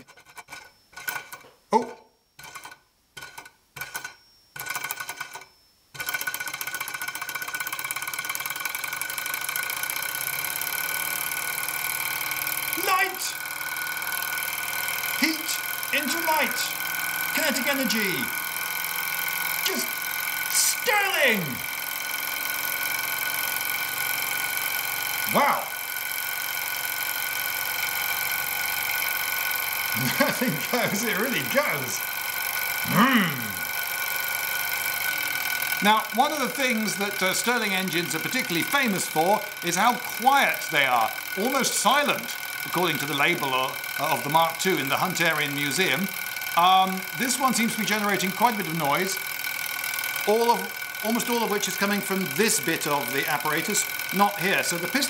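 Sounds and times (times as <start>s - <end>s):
model engine mechanical rattle: 0.0s - 1.6s, 2.4s - 55.0s.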